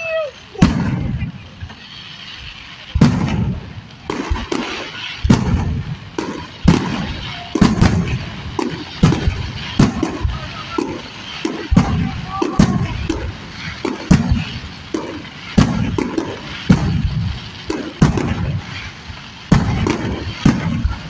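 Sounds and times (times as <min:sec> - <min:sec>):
fireworks bangs: 0:00.0 - 0:21.0
low rumble after bangs: 0:00.6 - 0:21.0.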